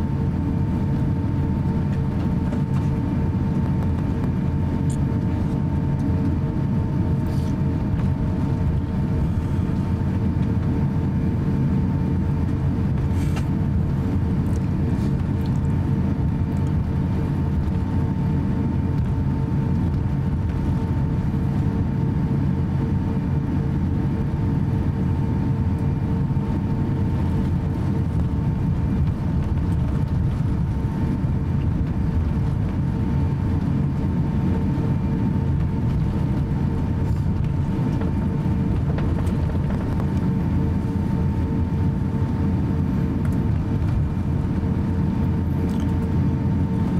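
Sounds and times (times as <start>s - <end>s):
airliner cabin low rumble: 0.0s - 46.9s.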